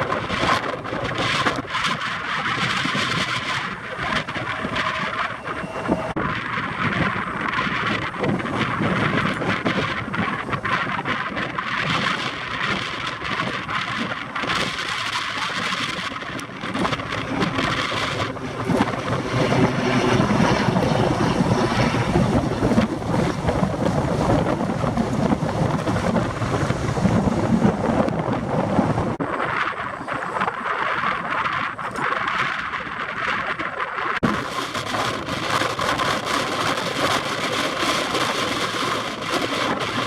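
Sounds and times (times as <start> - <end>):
jet engines rushing: 0.0 - 31.8, 34.2 - 40.0
wind buffeting microphone: 0.0 - 40.0.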